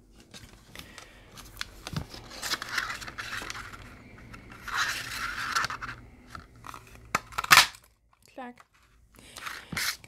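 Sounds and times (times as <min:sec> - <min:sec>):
cardstock rustling and scraping: 0:00.0 - 0:07.8, 0:08.7 - 0:10.0.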